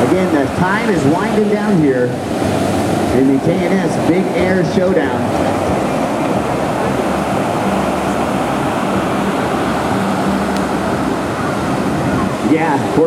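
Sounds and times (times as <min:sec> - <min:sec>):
rushing water: 0:00.0 - 0:13.0
wind noise: 0:00.0 - 0:13.0
loud motor drone: 0:02.2 - 0:13.0.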